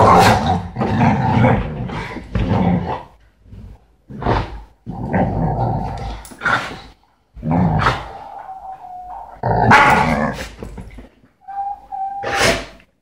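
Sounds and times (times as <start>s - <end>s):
dogs growling and barking: 0.0s - 11.0s.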